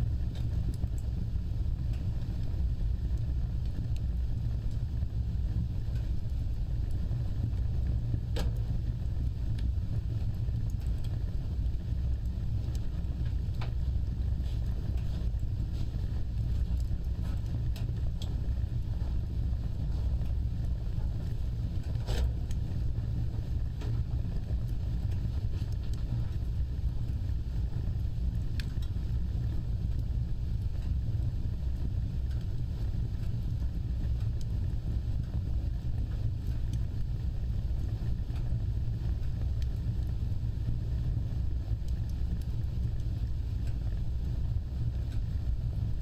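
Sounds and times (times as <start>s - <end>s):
fire burning low rumble: 0.0s - 46.0s
fire crackles and pops: 0.0s - 46.0s.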